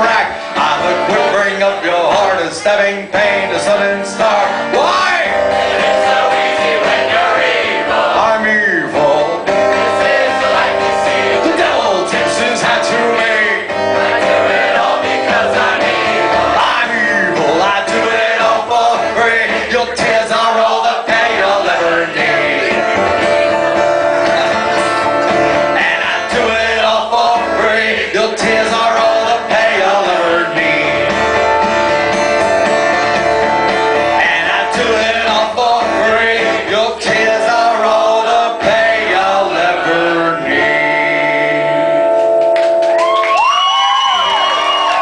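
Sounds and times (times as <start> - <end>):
person singing: 0.0 - 5.4, 7.9 - 31.4, 34.0 - 42.2
audience singing along: 0.0 - 42.0
guitar: 0.0 - 45.0.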